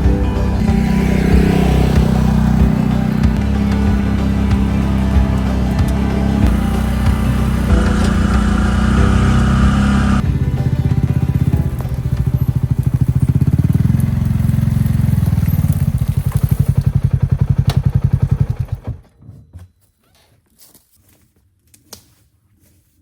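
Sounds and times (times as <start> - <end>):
engine idling: 0.0 - 18.8.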